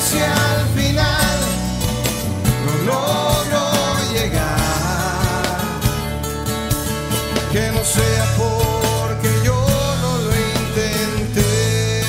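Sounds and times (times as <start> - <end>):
song with steady beat: 0.0 - 12.0.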